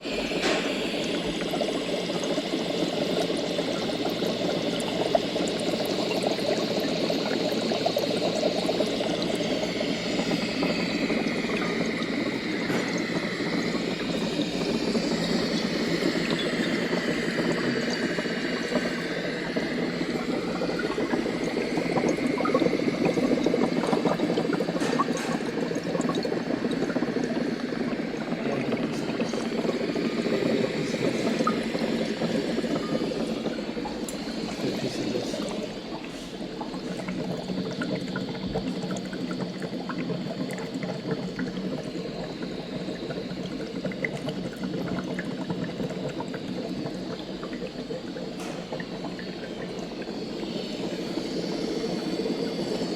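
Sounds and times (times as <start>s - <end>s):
water bubbling at the boil: 0.0s - 52.9s.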